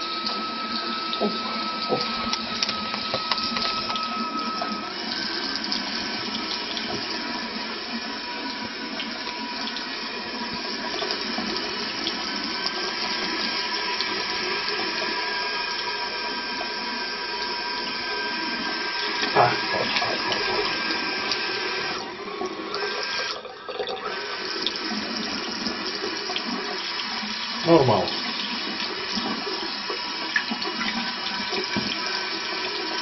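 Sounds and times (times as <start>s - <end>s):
tap water running into basin: 0.0s - 33.0s.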